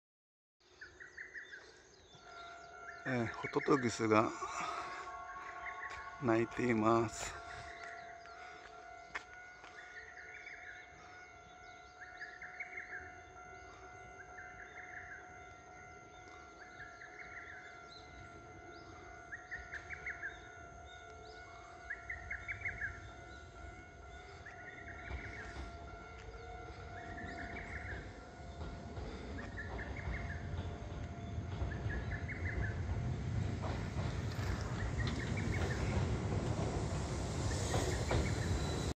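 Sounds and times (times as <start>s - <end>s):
cuckoo singing: 1.1s - 33.0s.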